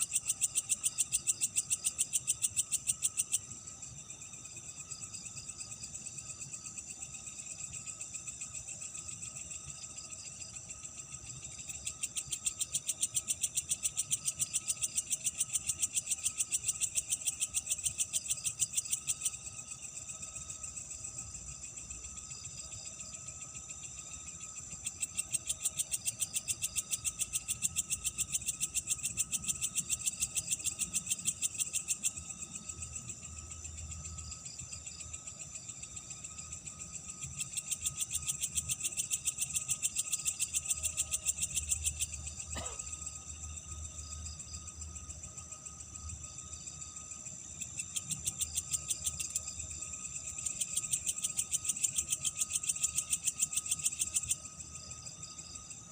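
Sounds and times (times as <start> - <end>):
crickets and insects trilling: 0.0 - 55.9
loud rapidly pulsing insect trill: 0.0 - 55.9.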